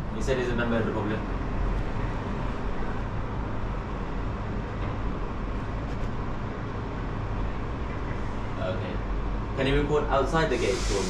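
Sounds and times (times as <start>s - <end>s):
constant hum: 0.0s - 11.0s
road traffic rumble: 0.0s - 11.0s.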